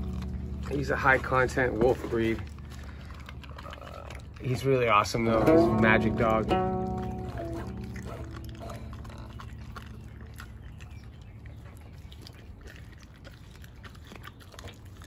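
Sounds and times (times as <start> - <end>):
dog chewing bone: 0.0 - 15.0
wet crunches and jaw clicks: 0.0 - 15.0.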